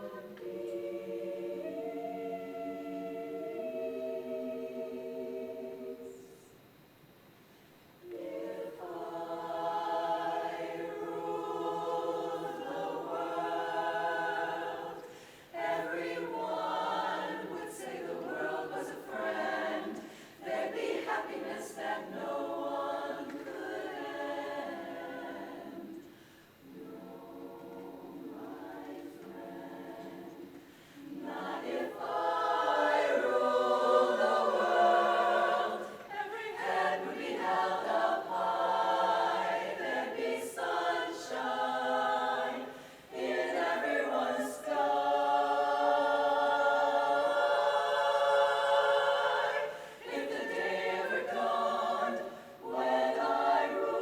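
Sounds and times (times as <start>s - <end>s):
a cappella choir singing: 0.0s - 7.2s, 7.9s - 54.0s.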